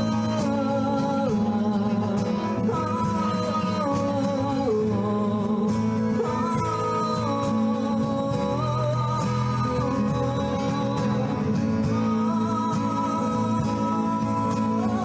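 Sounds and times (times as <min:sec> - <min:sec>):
guitar accompaniment: 0:00.0 - 0:15.0
held melody line: 0:00.0 - 0:15.0.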